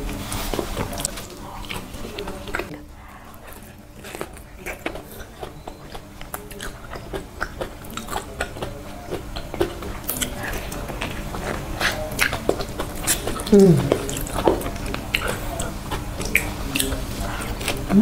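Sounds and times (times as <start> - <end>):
close-miked chewing: 0.0 - 18.0.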